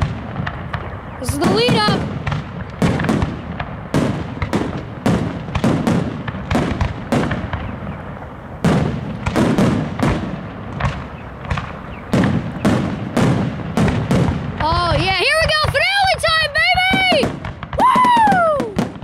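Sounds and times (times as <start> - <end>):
firework shells bursting: 0.0 - 19.0.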